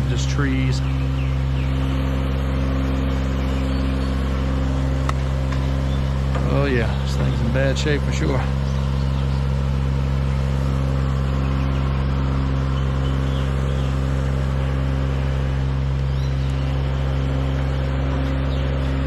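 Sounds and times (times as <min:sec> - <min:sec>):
aerial lift engine running: 0:00.0 - 0:19.0.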